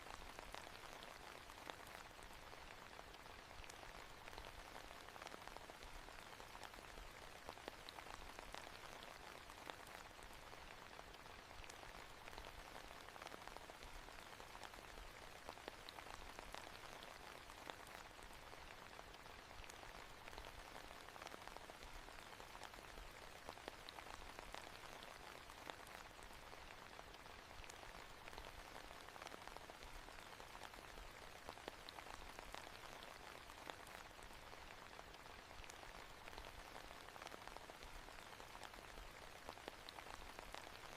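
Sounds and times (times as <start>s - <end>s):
quiet rain falling: 0.0s - 40.9s
raindrop ticks: 0.0s - 40.9s.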